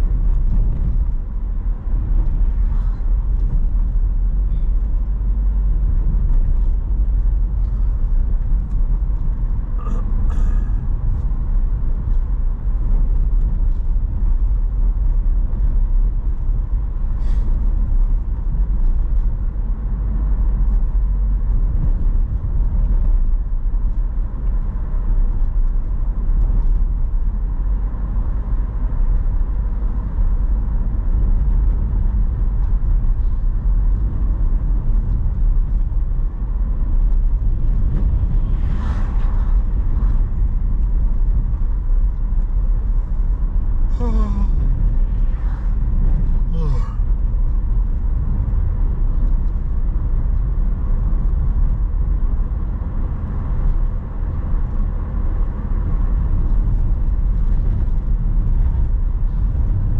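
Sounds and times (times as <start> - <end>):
car driving on highway: 0.0 - 59.9.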